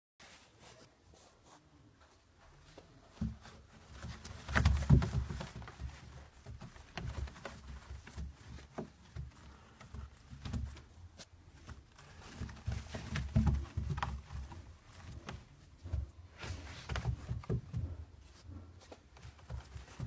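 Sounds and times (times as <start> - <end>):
light clicks and shuffles: 0.2 - 20.0.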